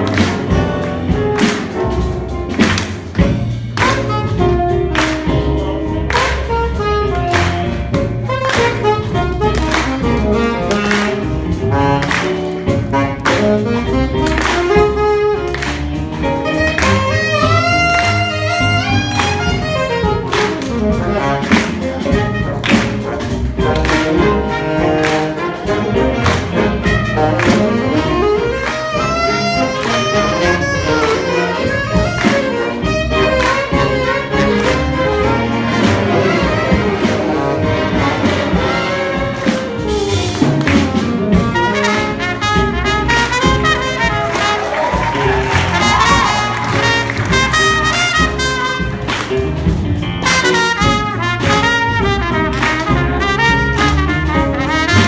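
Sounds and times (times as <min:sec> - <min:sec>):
cymbals keeping a beat: 0:00.0 - 0:55.0
jazz big band playing: 0:00.0 - 0:55.0
alto saxophone solo: 0:03.7 - 0:55.0.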